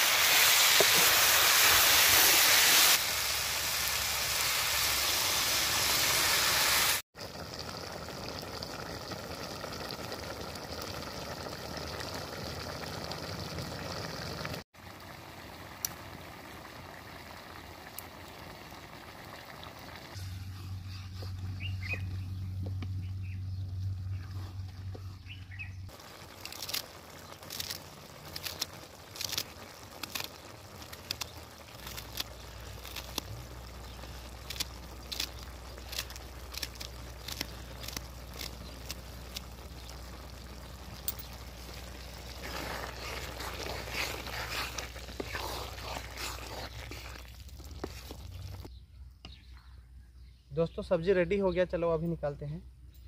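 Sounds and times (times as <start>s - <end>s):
soft sizzle: 0.0s - 48.7s.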